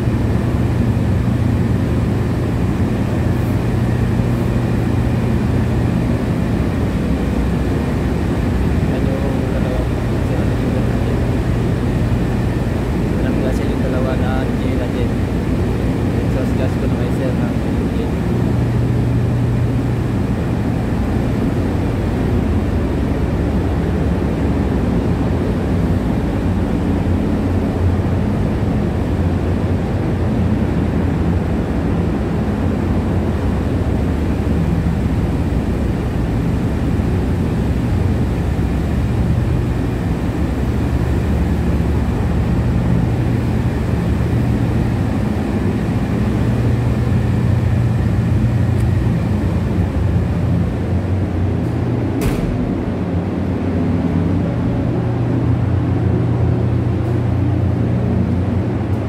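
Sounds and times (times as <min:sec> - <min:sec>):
engine room machinery drone: 0:00.0 - 0:59.0.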